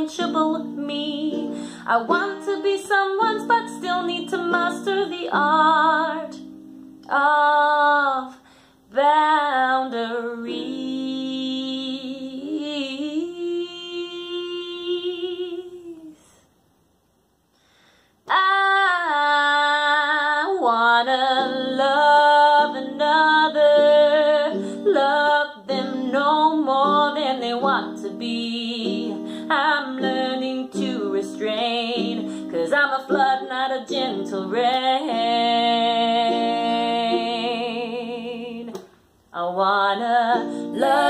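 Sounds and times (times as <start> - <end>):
woman singing with vibrato: 0.0 - 16.4, 18.3 - 41.0.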